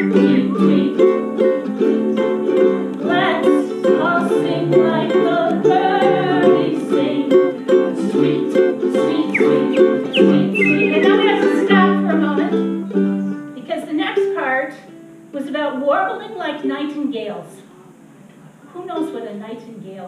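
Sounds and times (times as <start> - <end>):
ukulele strumming chords: 0.0 - 17.2.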